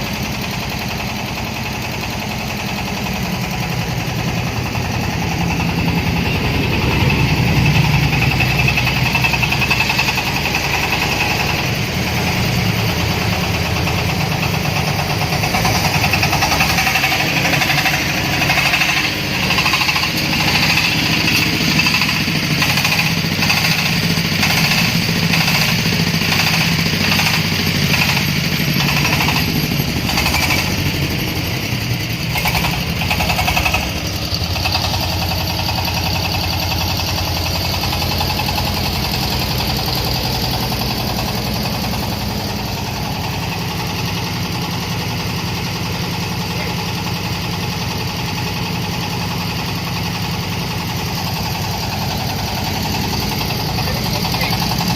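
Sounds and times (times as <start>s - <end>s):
engine drone: 0.0s - 54.9s.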